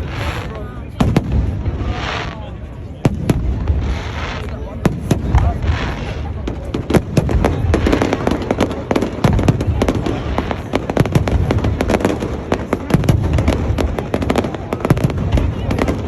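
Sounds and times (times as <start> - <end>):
fireworks crackling pops: 0.0 - 16.0.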